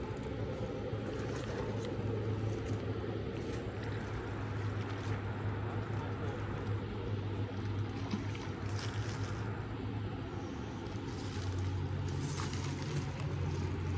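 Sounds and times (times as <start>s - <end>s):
constant drone: 0.0s - 13.9s
steady low hum: 0.0s - 13.9s.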